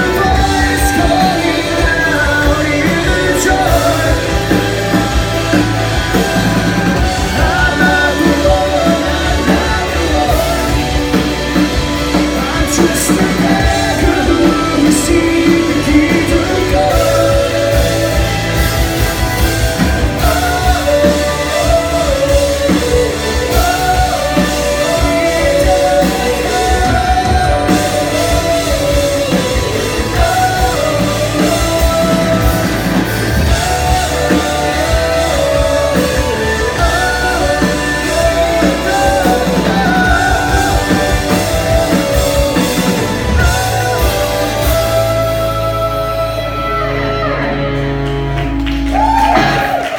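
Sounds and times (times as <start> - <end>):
drums: 0.0 - 49.9
electric guitars: 0.0 - 49.9
person singing: 0.0 - 49.9.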